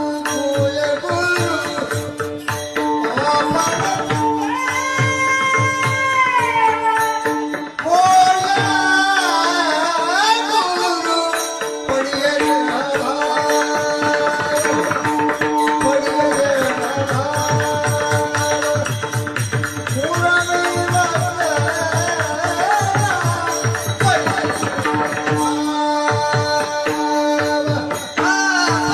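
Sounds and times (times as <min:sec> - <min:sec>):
hand drum: 0:00.0 - 0:28.9
jingling percussion: 0:00.0 - 0:28.9.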